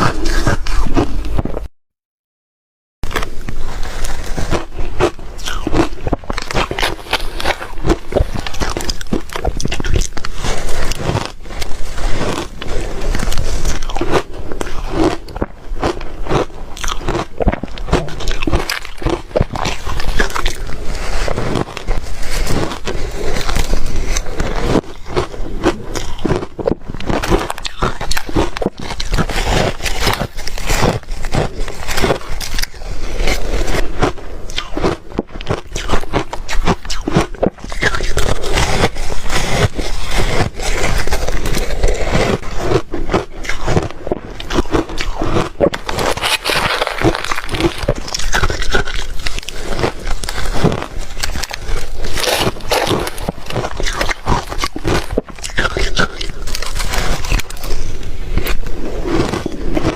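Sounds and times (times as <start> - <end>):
ice crunching in mouth: 0.0 - 1.7, 3.1 - 59.9.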